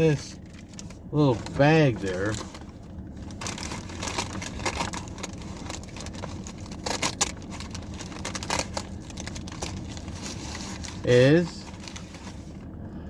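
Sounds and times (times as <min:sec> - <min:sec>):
low steady rumble: 0:00.0 - 0:13.0
paper bag rustling and crinkling: 0:00.1 - 0:12.6.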